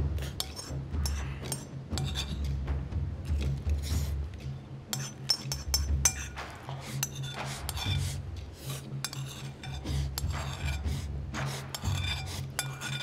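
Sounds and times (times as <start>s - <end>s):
metal spoon scraping ceramic plate: 0.2s - 2.6s, 4.9s - 13.0s.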